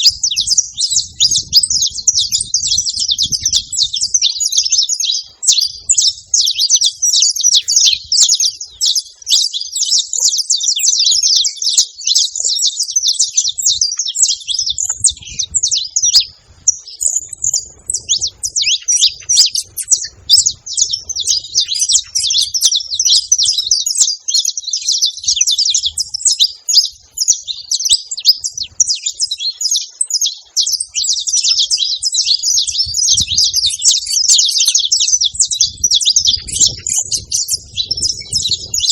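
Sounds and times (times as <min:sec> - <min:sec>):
finch chirping: 0:00.0 - 0:38.9.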